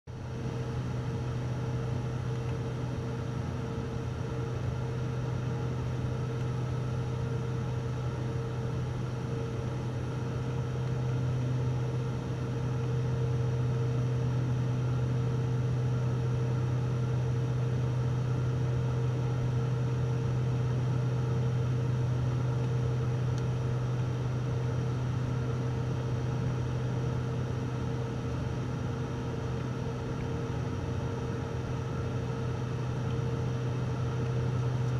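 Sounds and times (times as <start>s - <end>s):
airliner engine and propeller drone: 0.1s - 34.9s.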